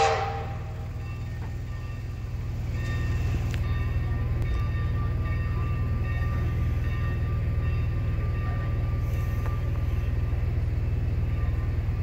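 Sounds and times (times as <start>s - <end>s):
steam locomotive low rumble: 0.0s - 12.0s.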